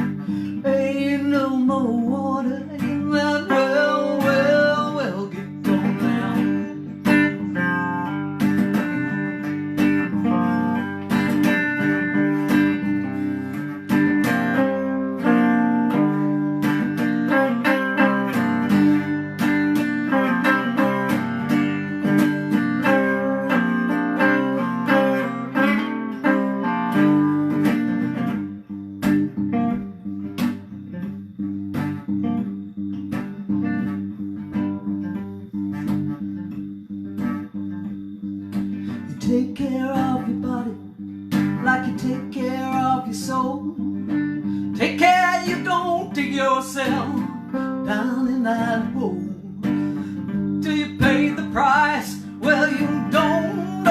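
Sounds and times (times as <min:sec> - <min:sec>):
instrumental guitar music: 0:00.0 - 0:53.9.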